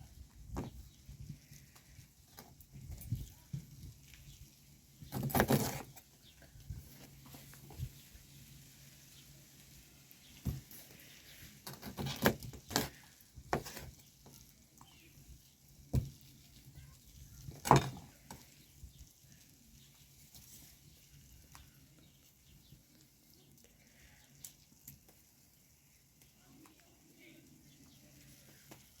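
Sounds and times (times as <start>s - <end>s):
faint steady hiss: 0.0s - 11.7s, 12.6s - 29.0s.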